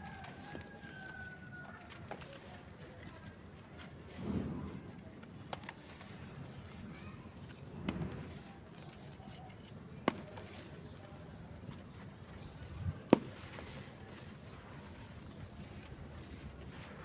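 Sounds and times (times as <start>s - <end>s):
dry cement crunching and trickling: 0.0s - 17.0s.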